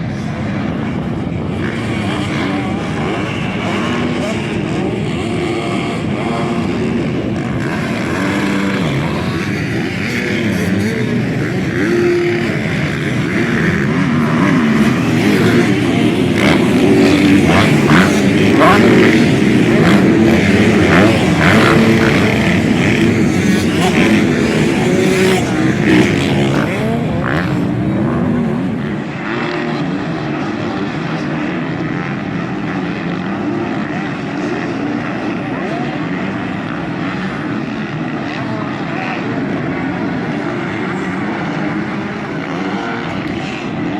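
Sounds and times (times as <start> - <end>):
motocross bike engines revving: 0.0 - 43.9.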